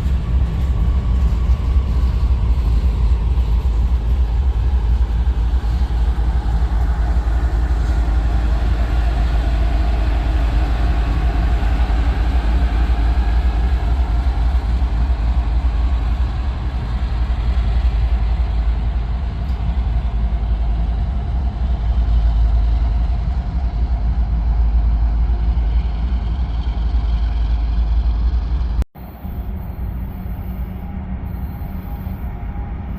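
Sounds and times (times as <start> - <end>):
freight train rolling past: 0.0 - 32.9.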